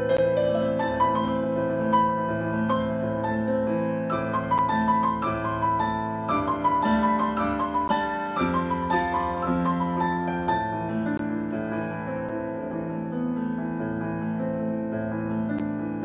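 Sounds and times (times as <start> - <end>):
piano played with both hands: 0.0 - 16.0.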